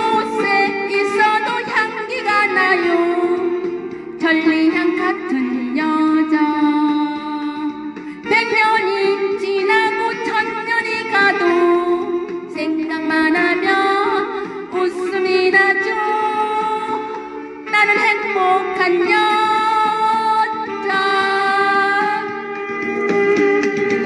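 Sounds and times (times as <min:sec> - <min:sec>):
instrumental backing music: 0:00.0 - 0:24.0
woman singing: 0:00.0 - 0:24.0.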